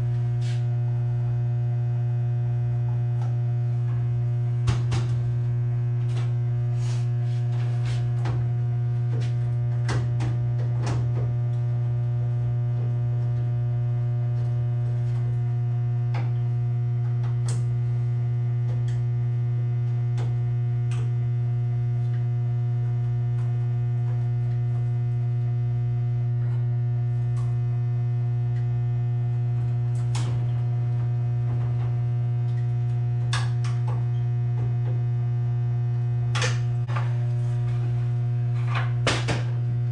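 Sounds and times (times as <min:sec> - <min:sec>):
transformer mains hum: 0:00.0 - 0:39.9.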